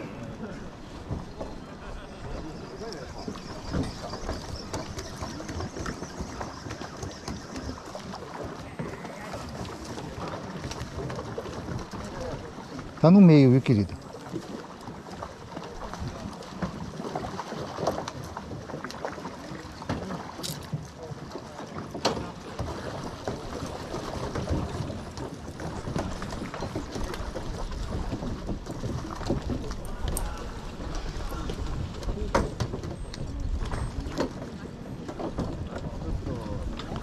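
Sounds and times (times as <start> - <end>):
small water sounds: 0.0 - 37.0.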